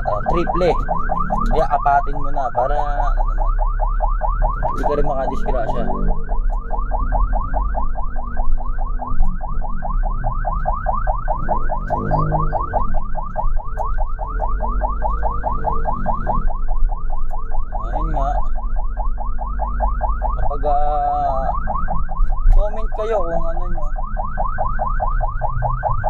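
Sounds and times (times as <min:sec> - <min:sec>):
ambulance siren yelping: 0:00.0 - 0:26.0
steady low rumble: 0:00.0 - 0:26.0.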